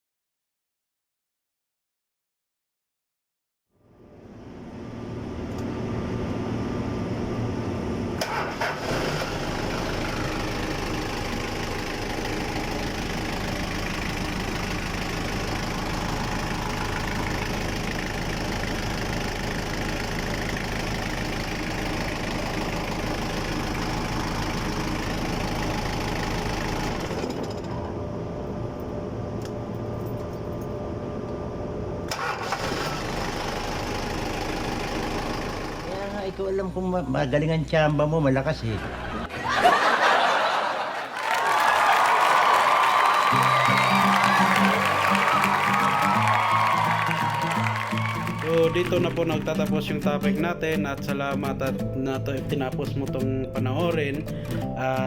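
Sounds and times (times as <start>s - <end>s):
diesel engine starting and running: 3.9s - 55.0s.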